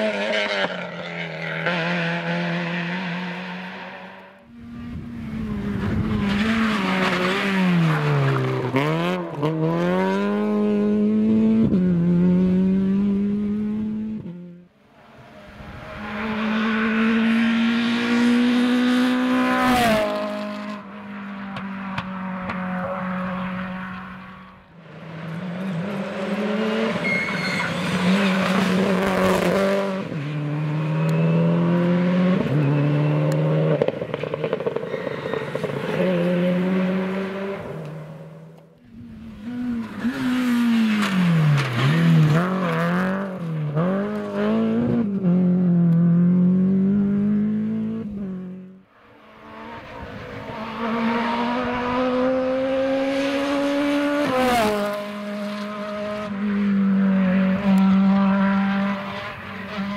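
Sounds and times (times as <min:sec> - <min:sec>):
rally car engines at full throttle: 0:00.0 - 0:59.9.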